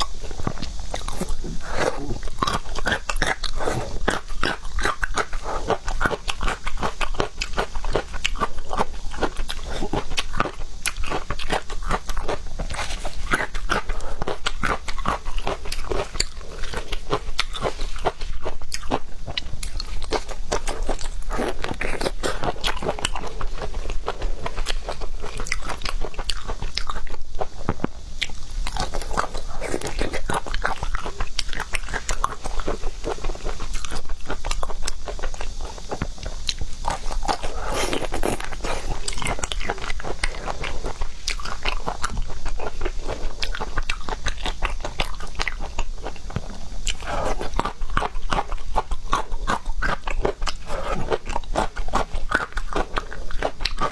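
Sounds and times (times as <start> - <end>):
wet chewing and crunching: 0.0 - 53.9.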